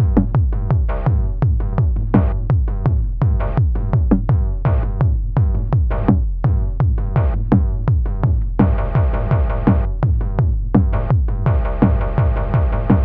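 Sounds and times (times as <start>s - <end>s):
drum machine beat: 0.0s - 13.0s.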